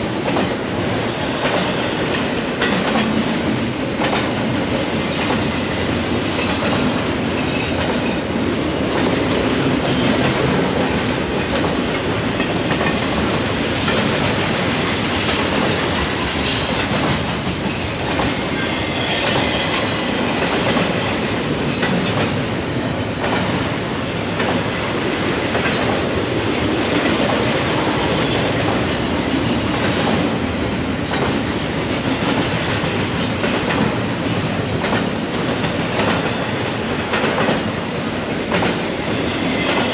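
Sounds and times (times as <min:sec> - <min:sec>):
freight train rumble: 0:00.0 - 0:39.9
train wheels clacking on rail joints: 0:00.1 - 0:39.9.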